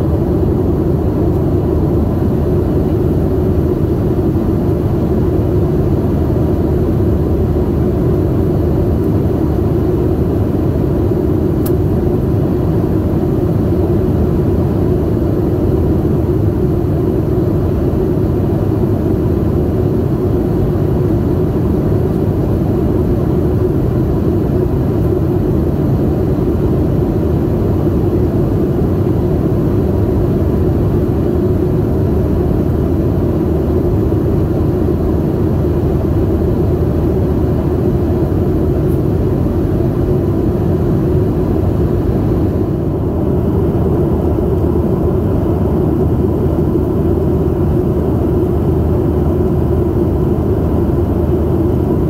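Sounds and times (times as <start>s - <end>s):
jet engine cabin rumble: 0.0s - 52.0s.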